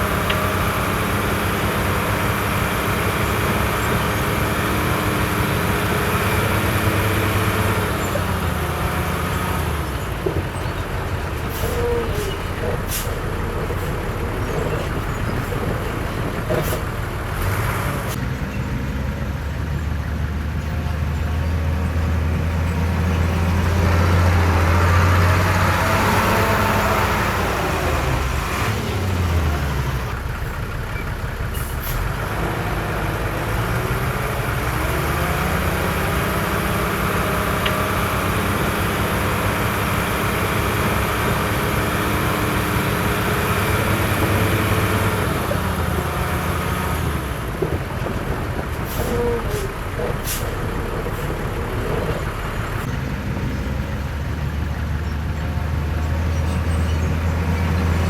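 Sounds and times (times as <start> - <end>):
diesel machinery engine under load: 0.0 - 58.0.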